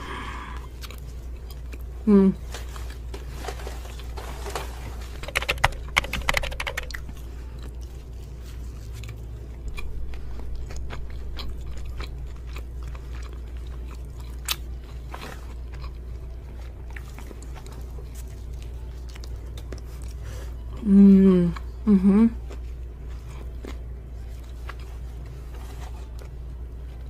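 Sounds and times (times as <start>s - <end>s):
biting and chewing food: 0.6s - 20.8s, 22.4s - 27.0s.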